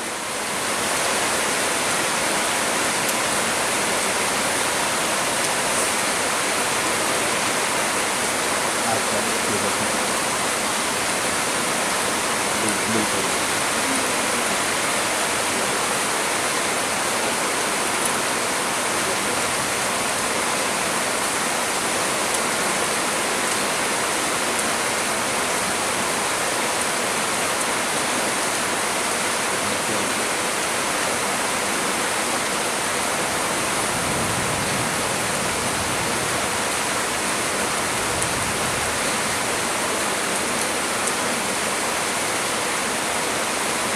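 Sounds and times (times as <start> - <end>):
heavy rain pouring: 0.0 - 43.9
wind in trees: 0.0 - 43.9.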